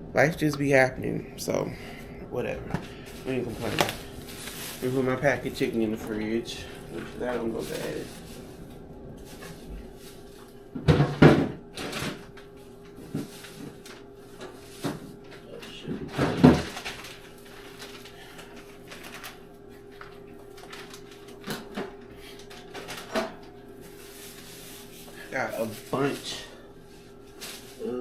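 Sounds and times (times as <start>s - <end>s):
faint steady hum: 0.0s - 28.0s
packages knocking and rustling: 2.7s - 26.5s.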